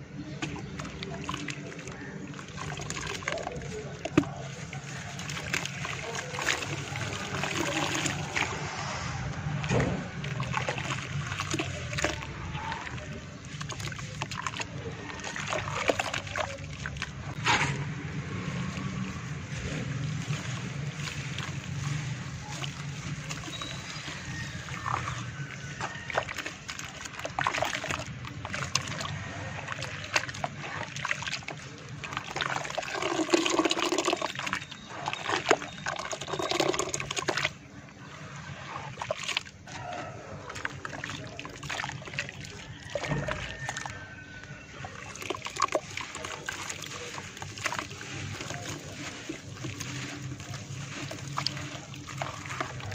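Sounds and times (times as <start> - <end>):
mud squelching and sloshing: 0.0 - 52.9.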